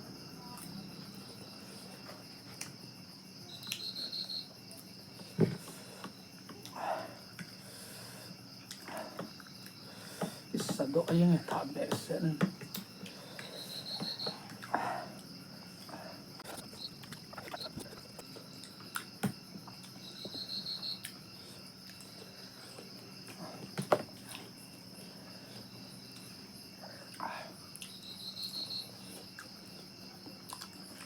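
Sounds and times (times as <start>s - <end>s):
insect trill: 0.0s - 31.0s
insects chirping: 0.0s - 31.0s.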